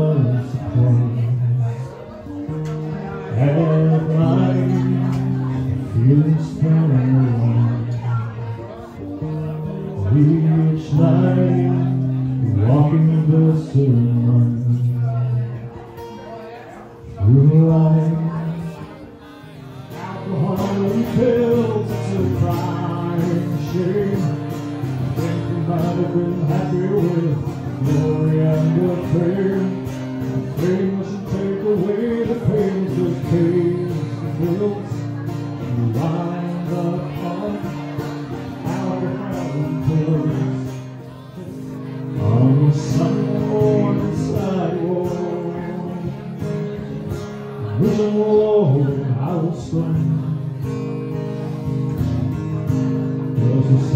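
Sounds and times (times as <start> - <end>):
acoustic guitar strumming: 0.0 - 53.9
man singing: 0.0 - 53.9.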